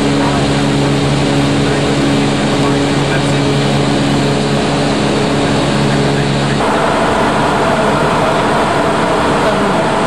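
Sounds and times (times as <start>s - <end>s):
rushing airflow: 0.9s - 10.0s.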